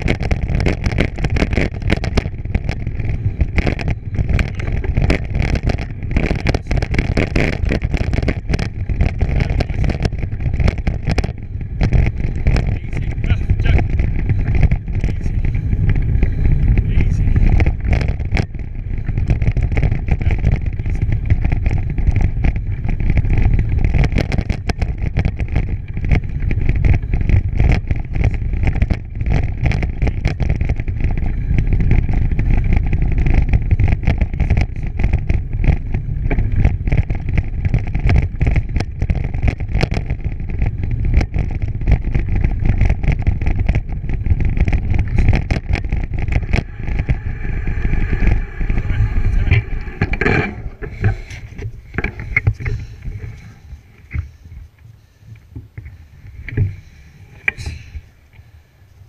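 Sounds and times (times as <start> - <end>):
small knocks and bumps: 0.0 - 54.4
bicycle rattling along a track: 0.0 - 59.0
wind rumbling on microphone: 0.0 - 59.0.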